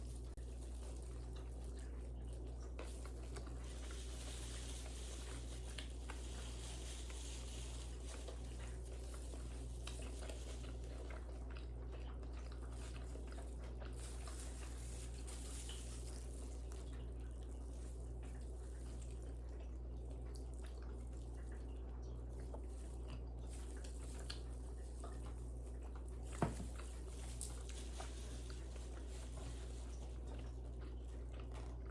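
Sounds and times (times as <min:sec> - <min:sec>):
chewing and biting: 0:00.0 - 0:31.9
low electrical hum: 0:00.0 - 0:31.9.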